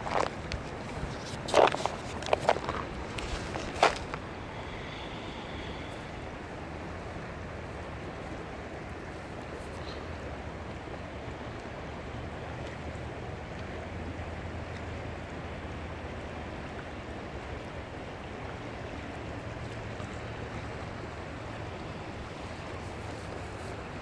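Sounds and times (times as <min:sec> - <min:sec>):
river rushing over riffles: 0:00.0 - 0:24.0.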